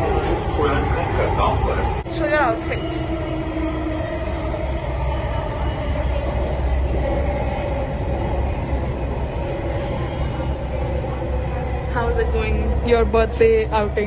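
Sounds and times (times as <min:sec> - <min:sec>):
train rumbling and rushing: 0:00.0 - 0:14.0
train whine: 0:00.0 - 0:14.0.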